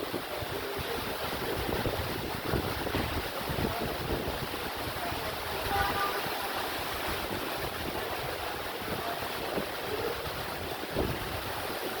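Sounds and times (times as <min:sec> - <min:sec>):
wind and rain hissing: 0:00.0 - 0:12.0
wind buffeting microphone: 0:00.0 - 0:12.0.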